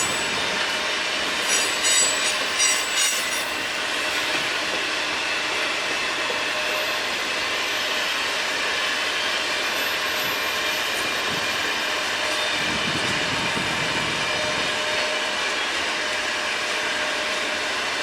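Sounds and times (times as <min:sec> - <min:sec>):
freight train cars rolling on rails: 0:00.0 - 0:18.0.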